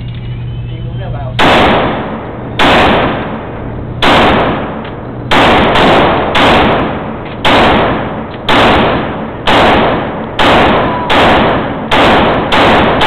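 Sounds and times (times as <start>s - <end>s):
gunshots with echo: 1.4s - 13.0s.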